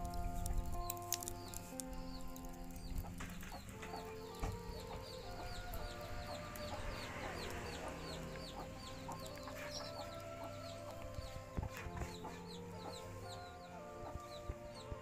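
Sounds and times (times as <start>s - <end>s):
birds chirping: 0.0s - 15.0s
quiet background music: 0.0s - 15.0s.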